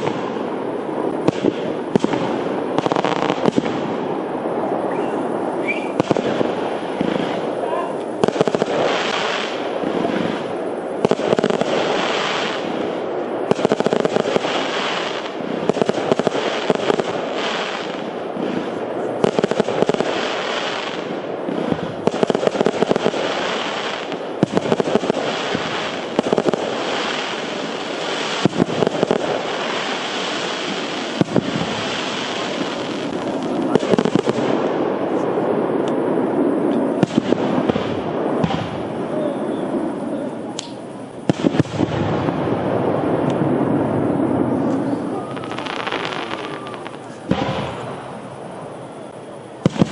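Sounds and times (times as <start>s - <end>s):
crackling roar of fireworks: 0.0s - 49.9s
fireworks bangs: 0.0s - 49.9s.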